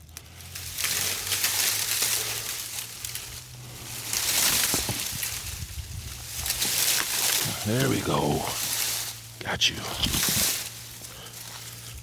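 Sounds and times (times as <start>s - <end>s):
dry brush rustling and crackling: 0.0s - 12.0s.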